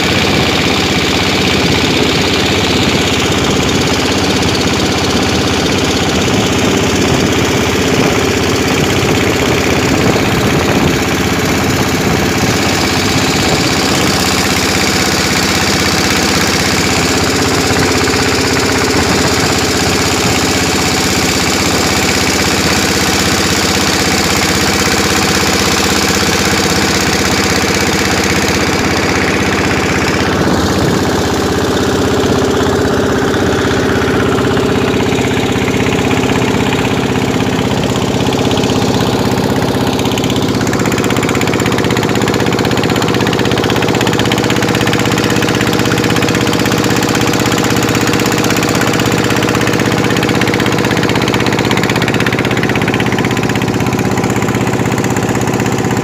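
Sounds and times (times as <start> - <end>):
boat engine running: 0.0 - 56.0
wind: 0.0 - 56.0.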